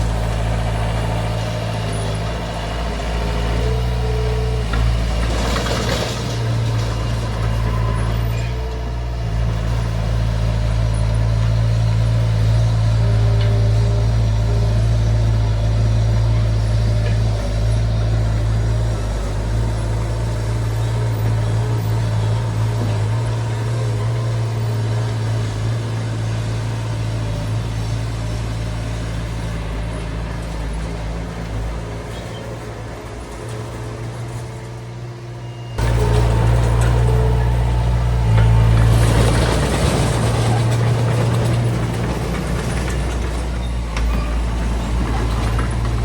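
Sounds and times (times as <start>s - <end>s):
bulldozer diesel engine drone: 0.0s - 46.0s.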